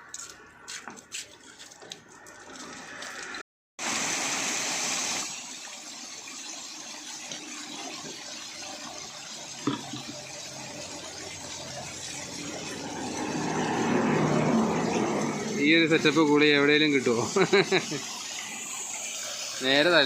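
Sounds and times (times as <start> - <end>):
water flowing and splashing: 0.0 - 20.0.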